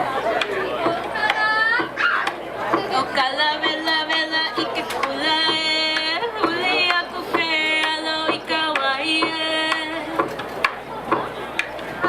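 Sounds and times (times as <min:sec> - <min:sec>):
person singing hula song: 0:00.0 - 0:10.8.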